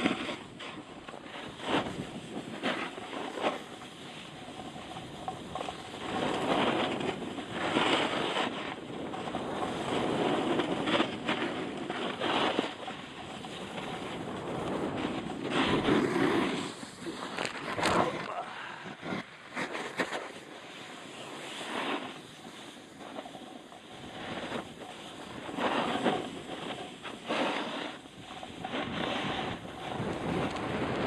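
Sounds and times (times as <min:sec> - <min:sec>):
skis carving packed snow: 0:00.0 - 0:31.0
wind on microphone: 0:00.0 - 0:31.0.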